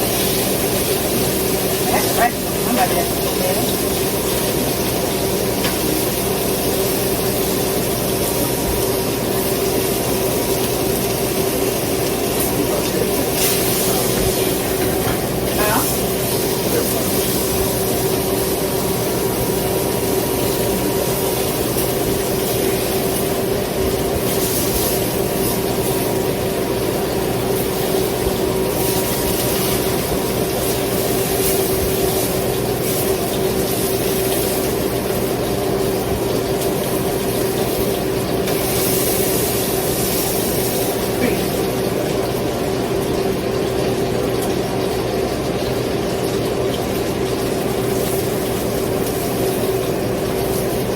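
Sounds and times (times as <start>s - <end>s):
kitchen appliance fan whirring: 0.0s - 50.9s.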